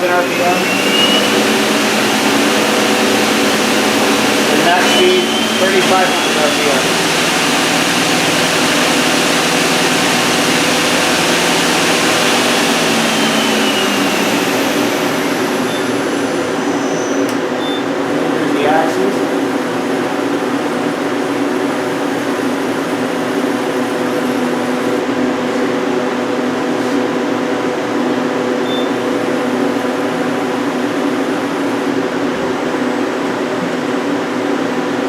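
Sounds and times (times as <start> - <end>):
lathe mechanical hum: 0.0 - 35.0.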